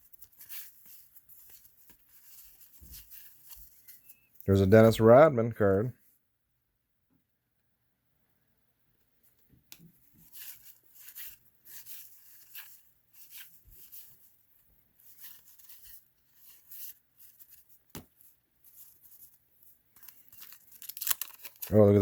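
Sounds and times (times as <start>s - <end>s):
cards rustling and scraping: 0.0s - 5.8s, 9.7s - 22.0s.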